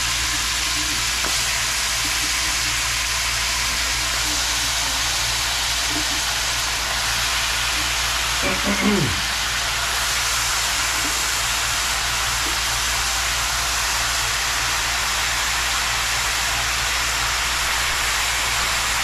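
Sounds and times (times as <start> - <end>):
chicken sizzling in a pot: 0.0 - 19.0.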